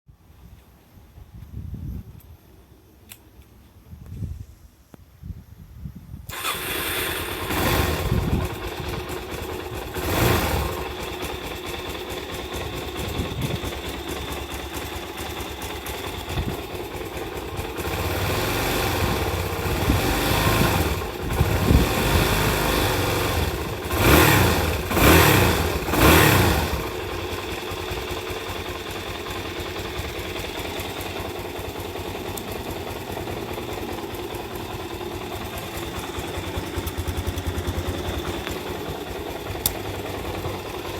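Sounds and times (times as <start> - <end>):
motorcycle engine revving and idling: 6.3 - 40.9.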